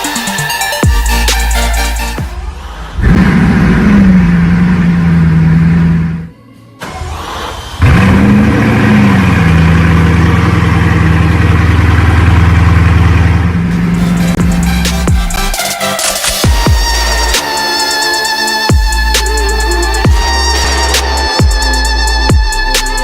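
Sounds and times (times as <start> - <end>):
car engine idling: 0.0 - 23.0
engine starting with rev: 2.4 - 23.0.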